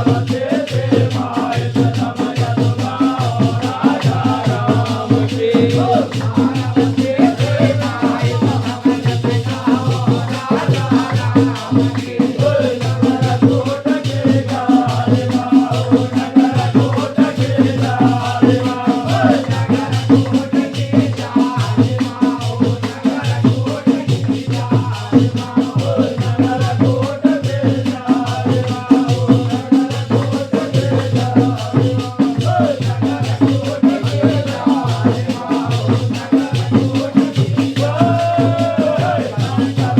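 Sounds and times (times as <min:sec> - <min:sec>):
driving drum beat: 0:00.0 - 0:39.9
jingling percussion: 0:00.0 - 0:39.9.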